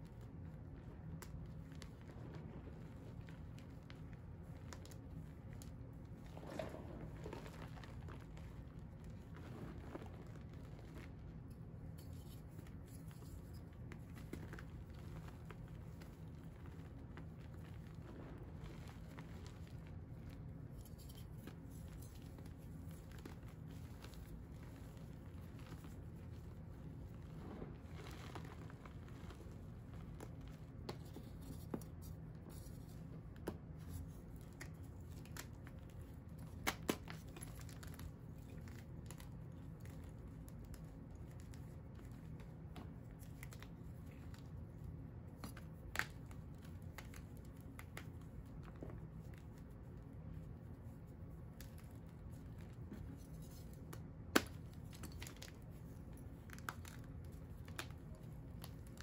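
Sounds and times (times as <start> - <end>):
low steady hum: 0.0 - 59.0
powder crunching and crumbling: 0.0 - 59.0.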